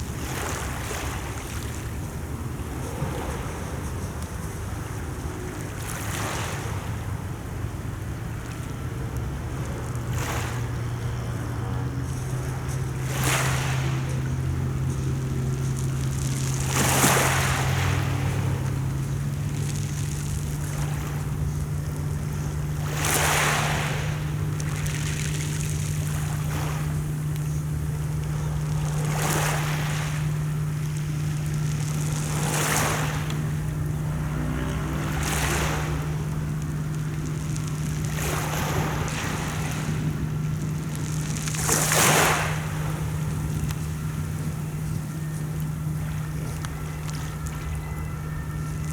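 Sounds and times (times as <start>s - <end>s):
low engine hum: 0.0s - 48.9s
sea waves washing: 0.0s - 48.9s.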